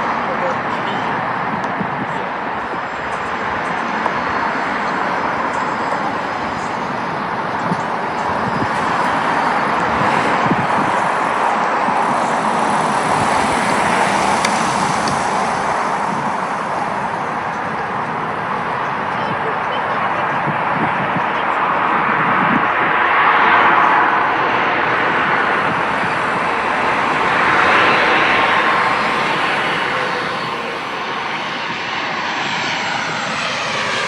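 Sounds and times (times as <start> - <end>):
airliner jet noise: 0.0 - 34.0.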